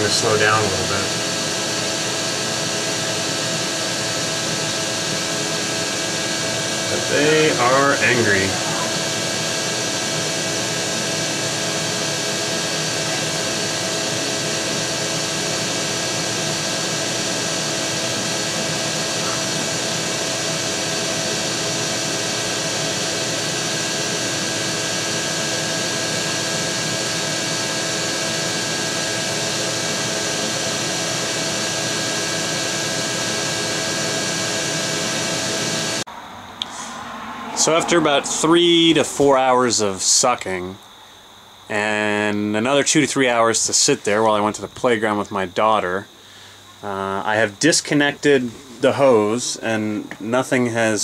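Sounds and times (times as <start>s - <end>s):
shop vac running: 0.0s - 51.0s.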